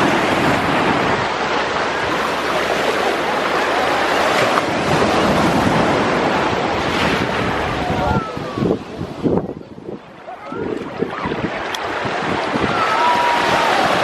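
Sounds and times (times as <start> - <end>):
ocean surf washing: 0.0 - 14.0
wind buffeting microphone: 0.0 - 14.0.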